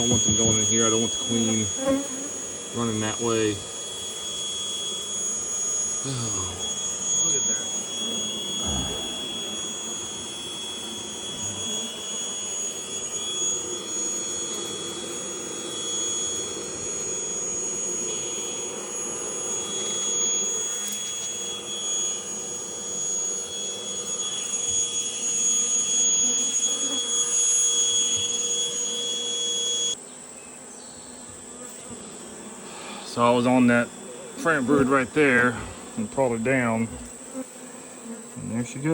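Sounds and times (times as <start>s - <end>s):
bees buzzing: 0.0s - 38.9s
vacuum motor whine: 0.0s - 38.9s.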